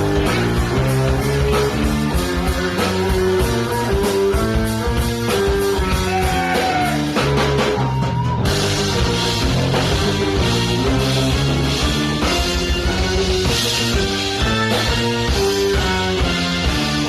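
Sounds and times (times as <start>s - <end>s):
funk band playing live: 0.0s - 17.0s.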